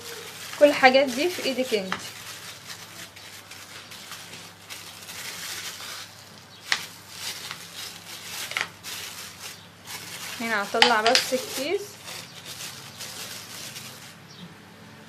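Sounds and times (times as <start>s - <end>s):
plastic bag rustling: 0.0s - 14.4s
soft handling noises: 0.0s - 14.4s.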